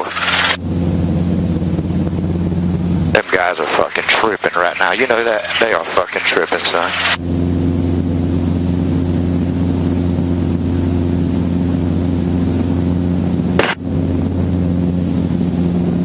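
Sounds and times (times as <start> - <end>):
helicopter cabin hum: 0.0 - 16.0.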